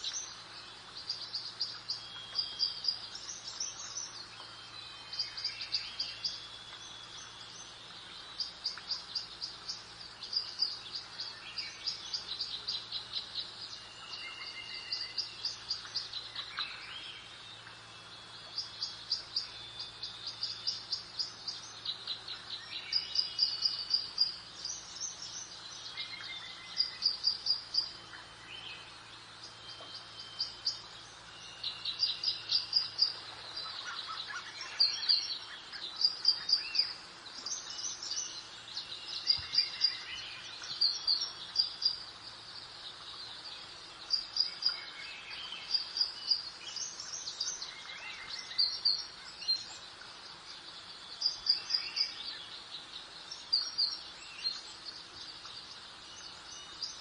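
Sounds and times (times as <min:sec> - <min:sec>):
soft steady background hiss: 0:00.0 - 0:57.0
songbirds chirping and singing: 0:00.0 - 0:57.0.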